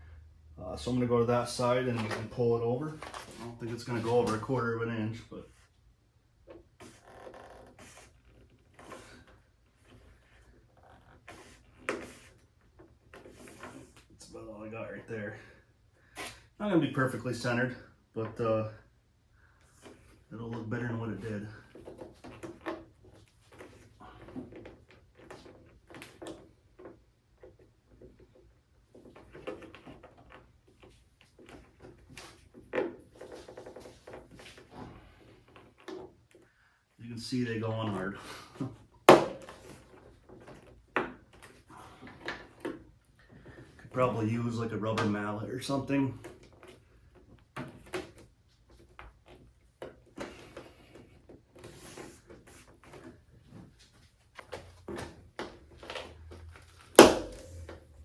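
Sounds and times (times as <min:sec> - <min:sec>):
rubber rustling: 0:00.8 - 0:15.4, 0:16.0 - 0:58.0.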